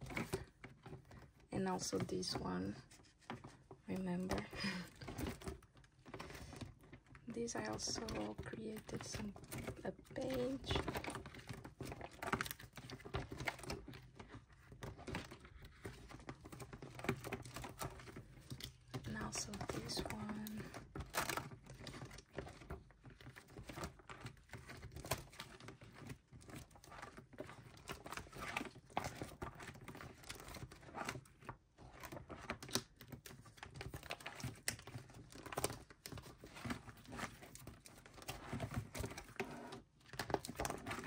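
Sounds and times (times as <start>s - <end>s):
plastic sleeve pages crinkling: 0.0s - 41.0s.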